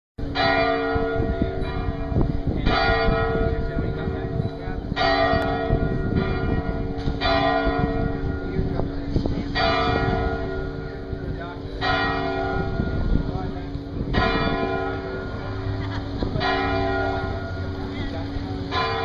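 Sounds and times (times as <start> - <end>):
church bells ringing: 0.2 - 19.0
low rumbling background noise: 0.2 - 19.0.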